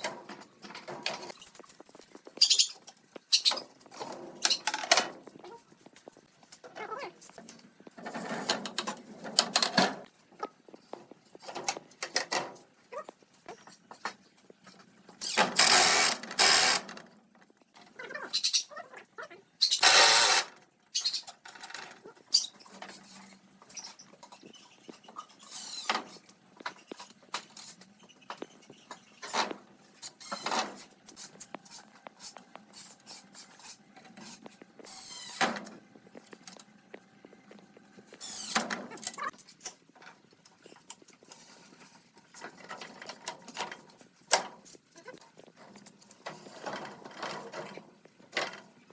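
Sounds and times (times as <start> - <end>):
tools clicking and scraping on wood: 0.0 - 18.0, 19.6 - 48.9.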